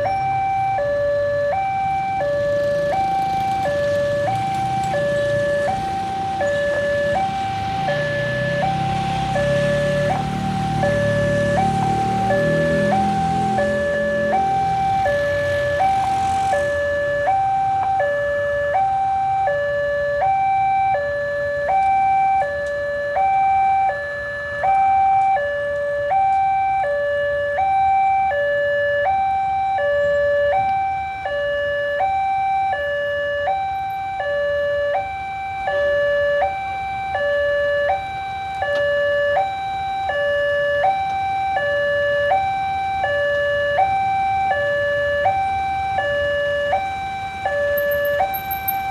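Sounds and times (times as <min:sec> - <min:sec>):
two-tone crossing alarm: 0:00.0 - 0:48.9.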